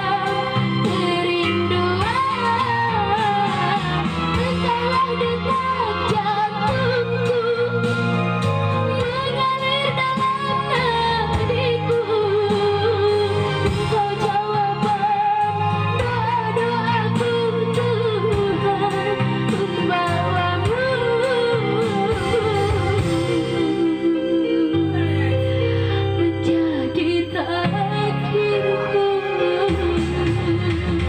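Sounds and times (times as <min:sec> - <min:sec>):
backing music: 0:00.0 - 0:31.0
girl singing into a microphone: 0:00.0 - 0:31.0.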